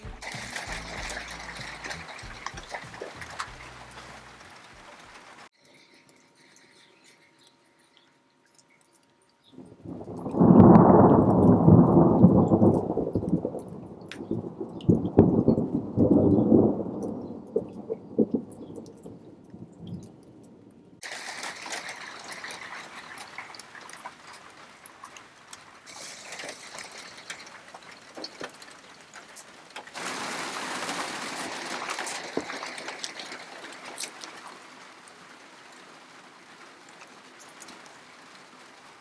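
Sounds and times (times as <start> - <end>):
rain falling: 0.0 - 5.5, 9.6 - 39.0
water trickling: 0.0 - 20.3, 21.0 - 38.2.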